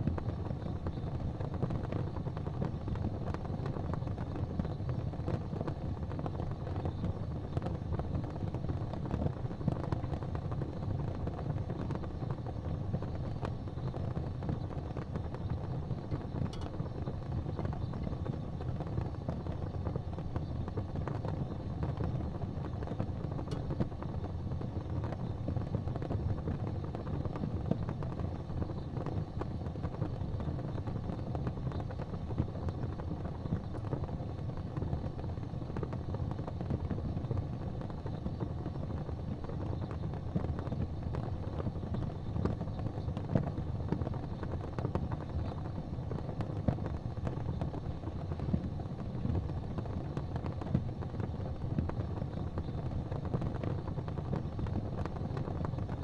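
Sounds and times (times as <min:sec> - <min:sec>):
faint fire crackles: 0:00.0 - 0:56.0
fire rumbling: 0:00.0 - 0:56.0.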